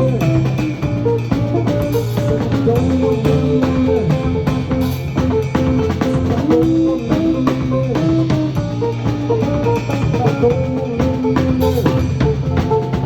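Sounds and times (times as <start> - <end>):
bass guitar: 0.0 - 13.0
drum kit steady beat: 0.0 - 13.0
guitar: 0.0 - 13.0.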